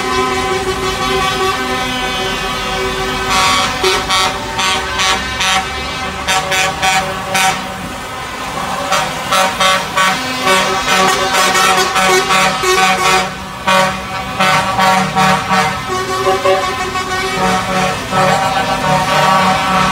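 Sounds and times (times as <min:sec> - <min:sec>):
diesel truck engines rumbling: 0:00.0 - 0:19.9
truck air horns: 0:00.0 - 0:19.9.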